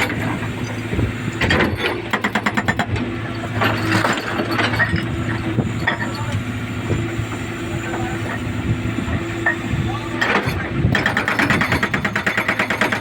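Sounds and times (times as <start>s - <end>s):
hydraulic breaker hammering concrete: 0.0s - 7.1s, 9.1s - 13.0s
diesel engine under load: 0.0s - 13.0s.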